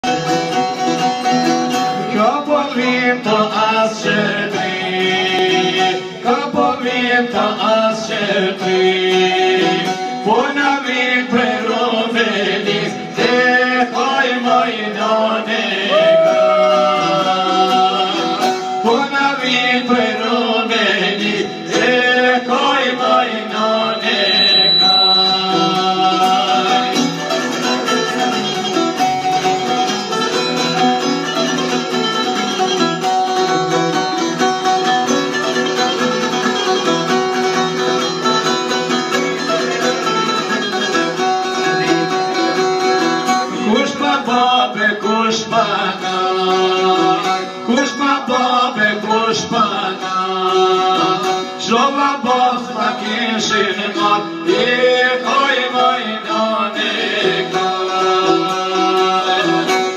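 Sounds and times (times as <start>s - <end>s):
plucked lutes: 0.0s - 59.9s
man singing: 1.8s - 30.5s, 36.8s - 59.9s.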